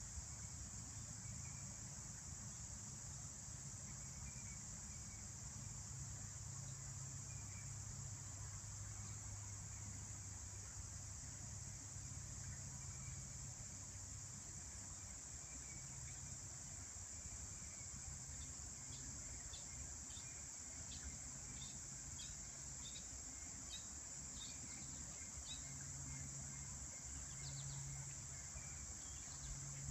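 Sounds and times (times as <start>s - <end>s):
crickets trilling: 0.0s - 29.9s.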